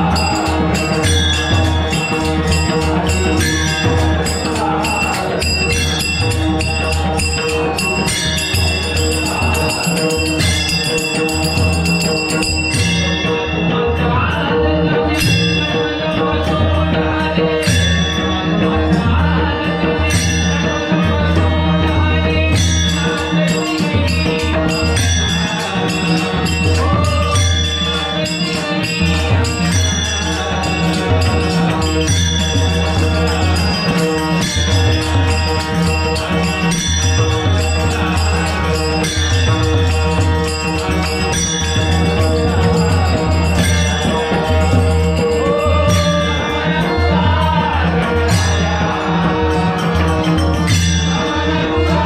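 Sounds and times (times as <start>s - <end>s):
hand cymbals clashing: 0.0s - 14.2s, 15.1s - 52.0s
harmonium held notes: 0.0s - 52.0s
voices chanting devotional song: 0.0s - 52.0s.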